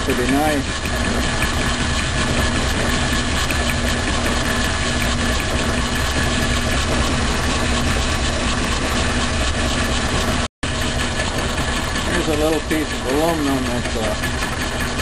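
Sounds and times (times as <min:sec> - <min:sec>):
lathe fly cutter milling metal: 0:00.0 - 0:15.0.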